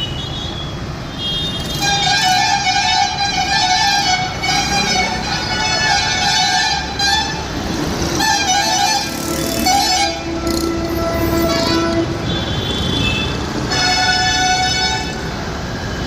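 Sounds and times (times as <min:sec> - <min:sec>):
vehicle horns honking: 0:00.0 - 0:16.0.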